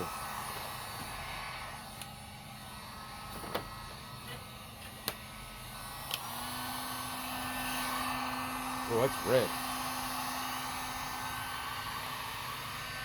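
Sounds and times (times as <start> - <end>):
heat gun blowing: 0.0 - 13.0.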